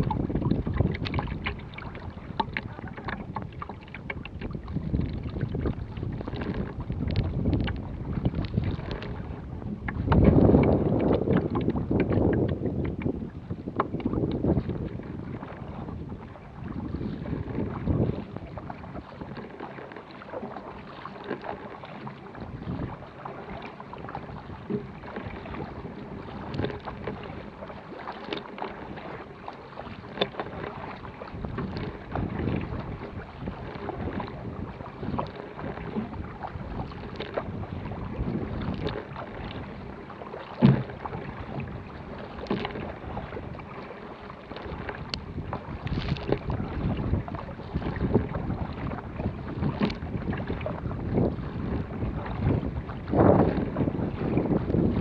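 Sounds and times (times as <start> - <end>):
kayak paddle strokes in water: 0.0 - 55.0
water splashing along hull: 0.0 - 55.0.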